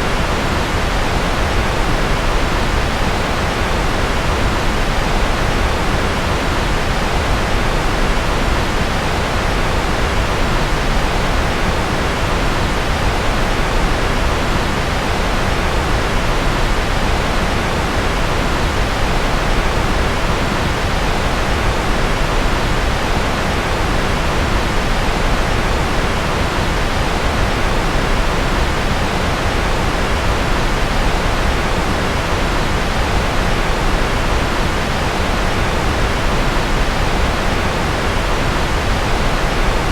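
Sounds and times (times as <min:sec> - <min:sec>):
steady white noise rushing: 0:00.0 - 0:39.9.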